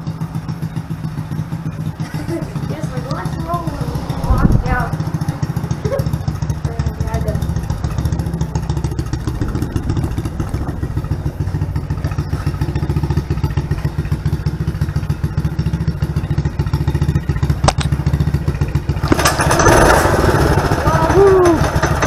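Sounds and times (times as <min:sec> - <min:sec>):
engine revving: 0:00.0 - 0:22.0
small engine idling: 0:00.0 - 0:22.0.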